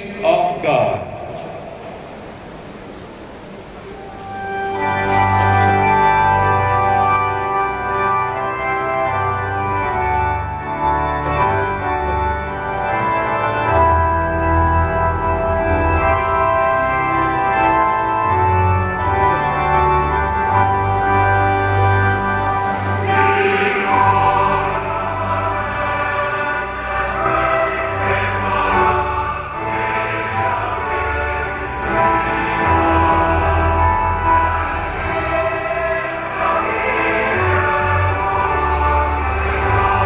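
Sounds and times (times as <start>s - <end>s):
organ playing hymn chords: 0.0s - 40.0s
choir and congregation singing: 4.4s - 40.0s.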